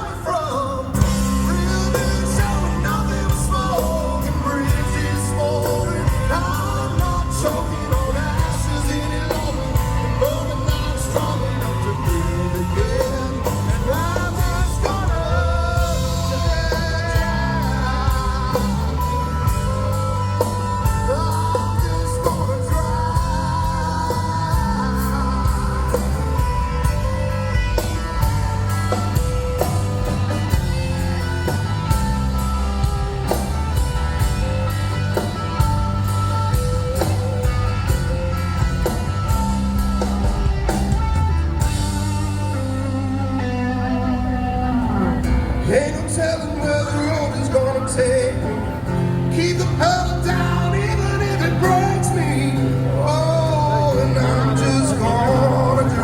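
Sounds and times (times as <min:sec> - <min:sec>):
bass guitar: 0:00.0 - 0:56.0.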